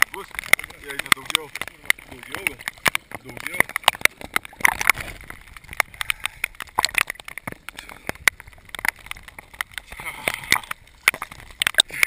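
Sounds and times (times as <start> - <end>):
sharp knocks and clicks: 0.0 - 9.8
water splashing and sloshing: 0.0 - 12.0.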